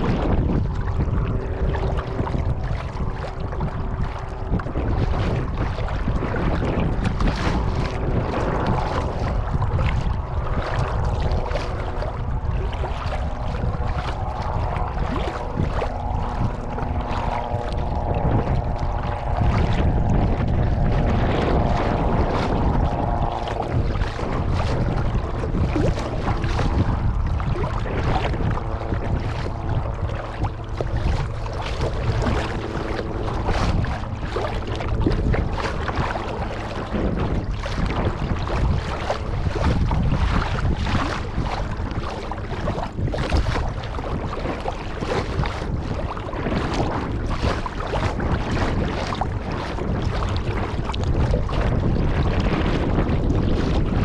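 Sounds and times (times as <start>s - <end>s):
paddle splashes: 0.0s - 54.0s
water sloshing against hull: 0.0s - 54.0s
wind buffeting microphone: 0.0s - 54.0s.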